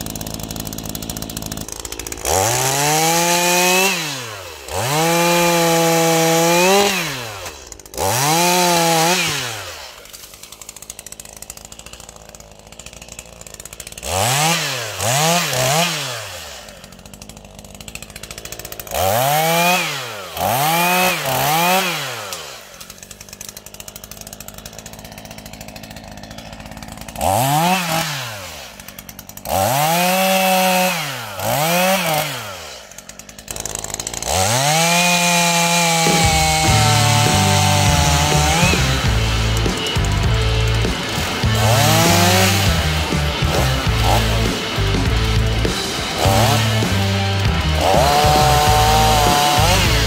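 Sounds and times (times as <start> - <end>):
chainsaw revving and idling: 0.0 - 50.0.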